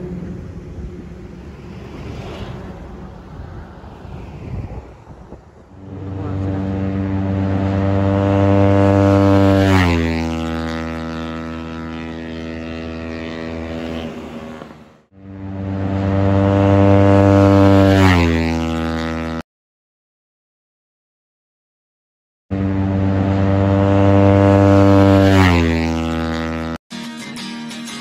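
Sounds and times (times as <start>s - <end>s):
motorcycle speeding past: 0.0s - 19.4s, 22.5s - 26.8s.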